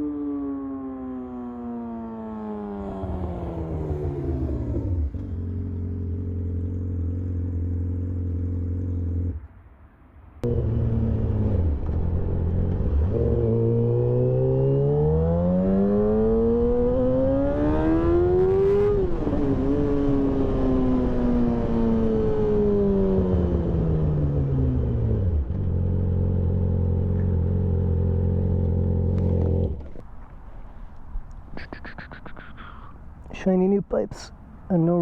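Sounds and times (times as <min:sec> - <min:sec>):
motorcycle engine revving: 0:00.0 - 0:09.4, 0:10.4 - 0:30.0.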